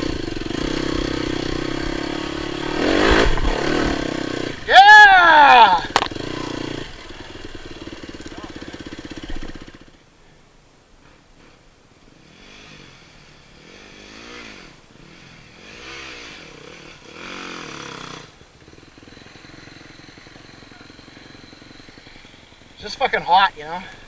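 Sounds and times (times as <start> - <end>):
dirt bike engine revving: 0.0 - 10.0, 12.0 - 24.0.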